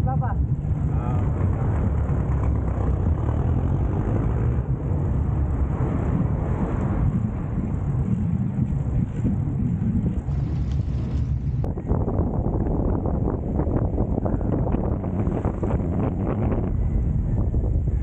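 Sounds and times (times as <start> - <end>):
road noise: 0.0 - 18.0
wind rumble: 0.0 - 18.0.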